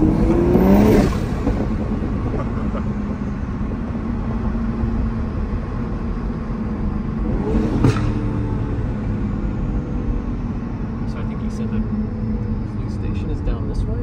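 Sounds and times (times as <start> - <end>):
car engine drone: 0.0 - 14.0
road rumble: 0.0 - 14.0.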